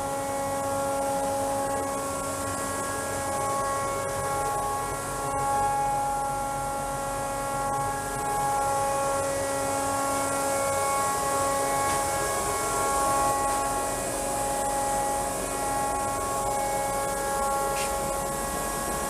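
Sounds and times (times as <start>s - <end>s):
dust extraction system humming: 0.0s - 19.0s.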